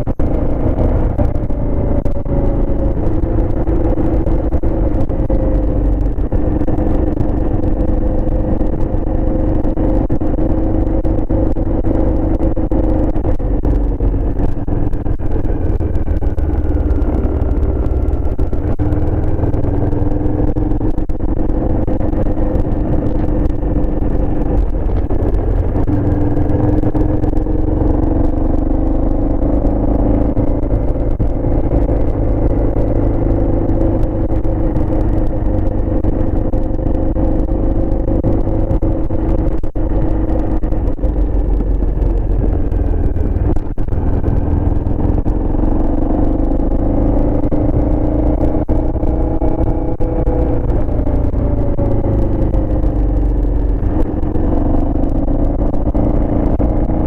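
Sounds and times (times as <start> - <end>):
low wind rumble: 0.0 - 57.0
motorcycle engine cruising: 0.0 - 57.0.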